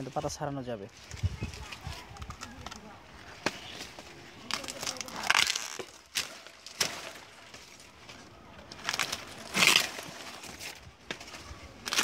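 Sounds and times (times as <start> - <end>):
dry leaves crackling and tearing: 0.0 - 12.0.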